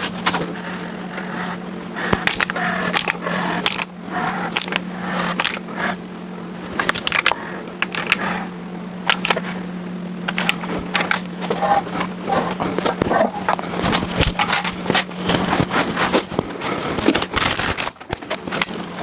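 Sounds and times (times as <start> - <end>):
tools tapping and scraping: 0.0 - 6.0, 6.7 - 9.6, 10.2 - 18.8
steady low hum: 0.0 - 19.0.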